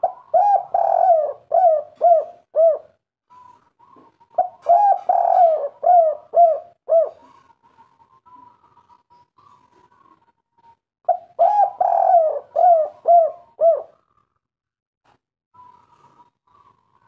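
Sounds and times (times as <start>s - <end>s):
dove cooing: 0.0s - 14.4s, 15.6s - 17.0s.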